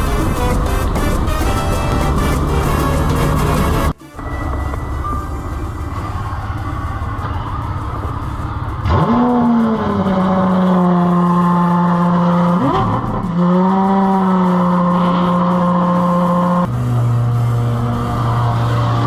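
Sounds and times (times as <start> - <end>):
car engine revving: 0.0 - 4.0, 5.4 - 19.0.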